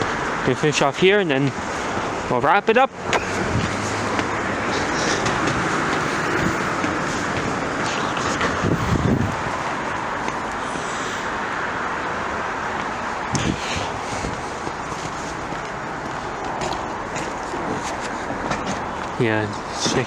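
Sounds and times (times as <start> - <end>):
road traffic hiss: 0.0 - 20.0.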